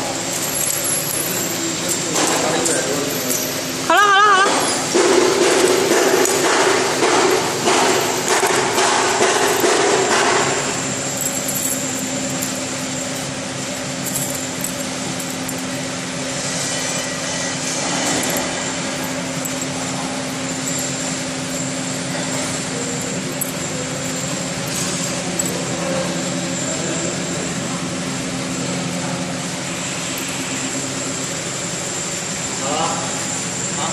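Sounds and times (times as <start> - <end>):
machine motor hum and whine: 0.0 - 33.9.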